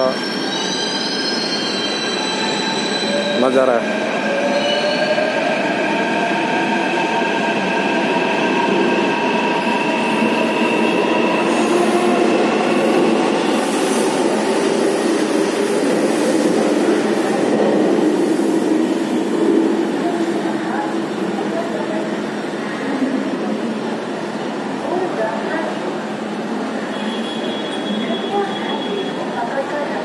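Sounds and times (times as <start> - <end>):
train whining and squealing: 0.0 - 23.4, 26.8 - 30.0.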